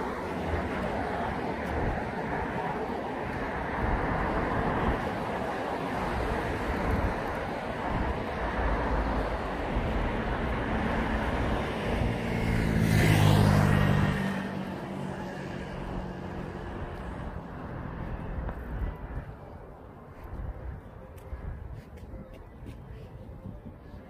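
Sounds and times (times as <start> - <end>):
street noise rumble: 0.0 - 24.0.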